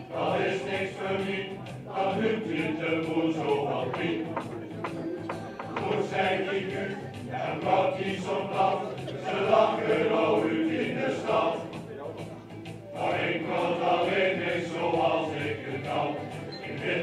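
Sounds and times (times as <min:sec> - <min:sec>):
men's choir singing: 0:00.0 - 0:12.3, 0:12.9 - 0:17.0.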